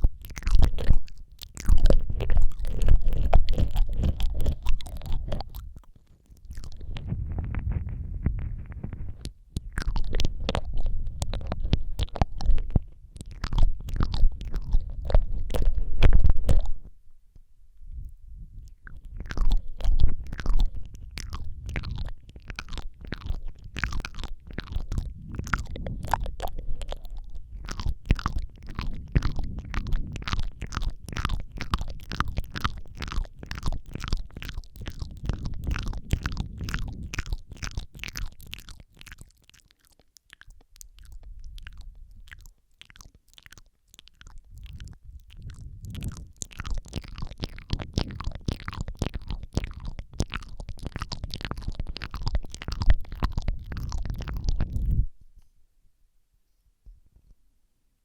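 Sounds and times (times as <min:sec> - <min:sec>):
wet mouth clicks: 0:00.0 - 0:17.0, 0:18.0 - 0:55.2.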